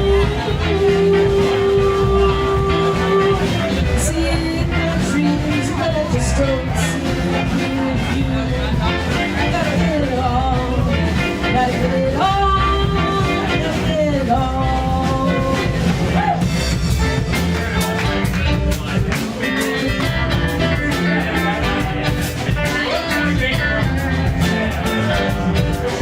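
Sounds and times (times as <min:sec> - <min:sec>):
live rock band playing: 0:00.0 - 0:26.0
sliding lead melody: 0:00.0 - 0:26.0.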